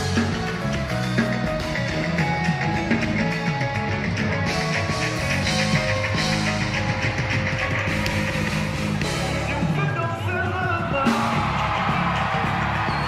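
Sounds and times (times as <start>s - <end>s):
drum kit: 0.0s - 13.0s
keyboards playing: 0.0s - 13.0s
live band music: 0.0s - 13.0s.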